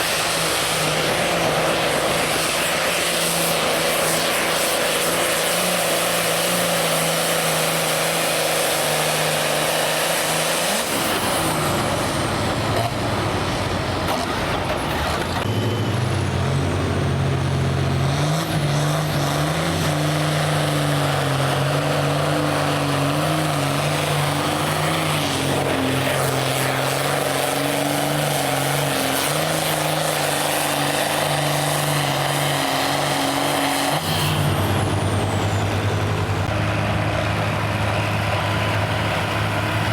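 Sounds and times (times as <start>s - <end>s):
tractor engine running hard: 0.0s - 39.9s.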